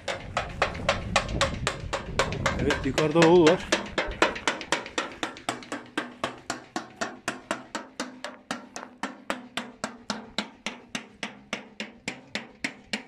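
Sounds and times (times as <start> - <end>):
rapid even knocking: 0.0 - 13.0.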